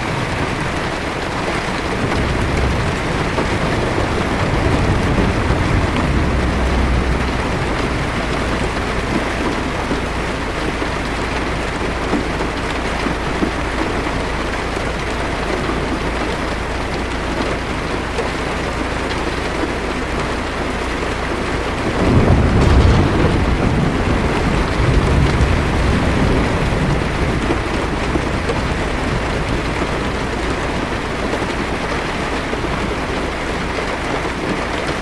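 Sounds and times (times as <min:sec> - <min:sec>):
heavy rain on car roof: 0:00.0 - 0:35.0
thunder rumble: 0:00.0 - 0:35.0.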